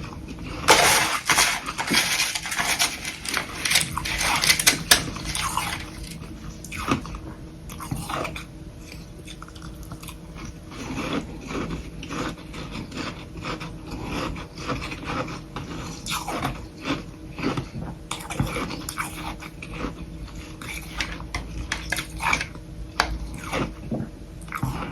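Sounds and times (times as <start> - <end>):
biting and chewing crunches: 0.0 - 24.9.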